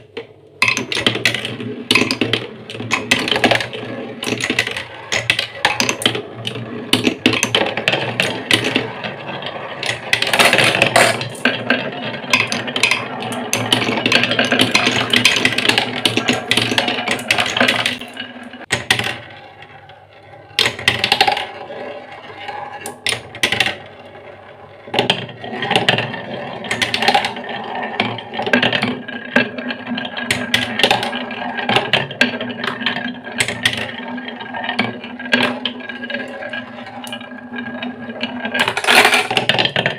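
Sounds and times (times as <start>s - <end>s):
marble rolling on wooden track: 0.0s - 39.9s.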